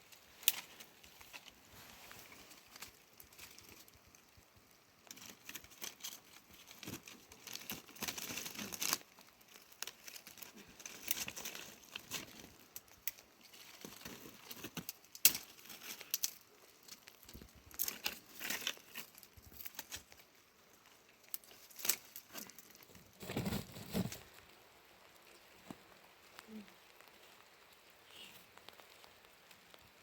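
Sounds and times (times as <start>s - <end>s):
rustling and crinkling handling: 0.0s - 27.4s.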